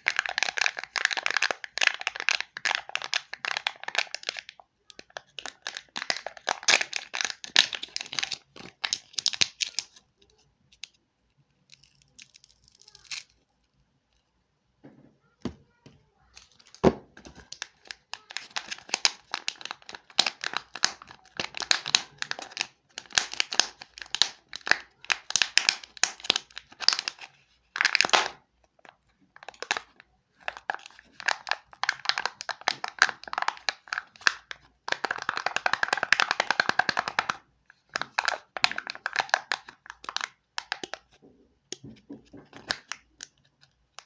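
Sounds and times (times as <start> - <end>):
plastic packaging crinkling and tearing: 0.0 - 11.0, 11.6 - 13.4, 16.3 - 28.4, 29.4 - 41.2, 42.5 - 43.3.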